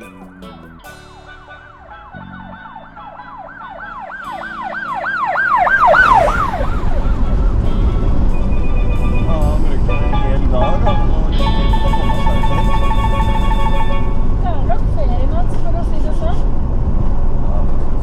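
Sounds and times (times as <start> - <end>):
siren wailing: 0.0 - 14.4
background music: 0.0 - 15.4
loud steady rushing noise: 1.2 - 18.0.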